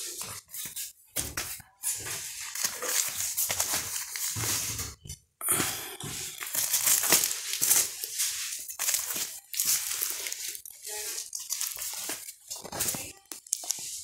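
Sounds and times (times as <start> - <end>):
plastic record sleeves crinkling: 0.0 - 5.1, 6.0 - 14.0.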